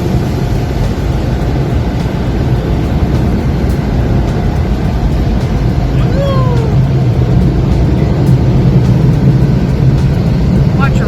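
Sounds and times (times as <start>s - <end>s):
car wash machinery rumbling: 0.0s - 11.0s.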